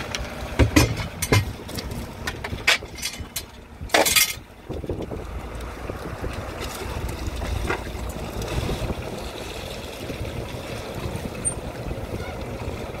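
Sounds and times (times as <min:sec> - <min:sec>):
water lapping against boat hull: 0:00.1 - 0:13.0
wind buffeting microphone: 0:00.4 - 0:13.0.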